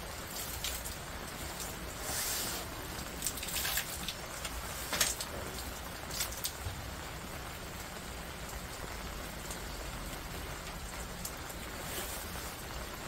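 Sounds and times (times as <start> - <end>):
rain hissing: 0.0 - 13.0
raindrops tapping close by: 0.0 - 13.0.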